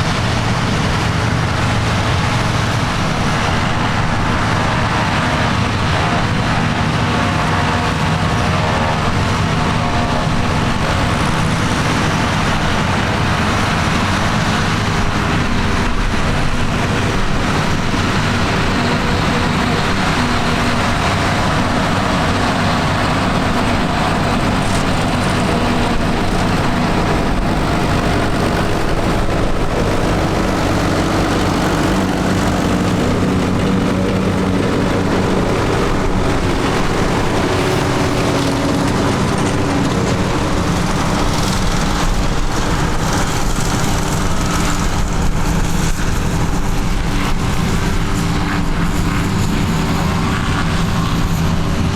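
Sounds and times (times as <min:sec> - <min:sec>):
tractor engine clattering: 0:00.0 - 0:51.9.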